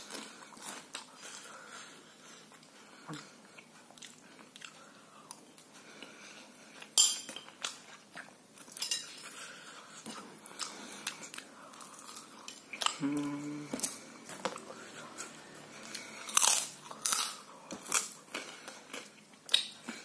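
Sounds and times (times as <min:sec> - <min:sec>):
person chewing and slurping noodles: 0:00.0 - 0:07.0, 0:07.6 - 0:20.0.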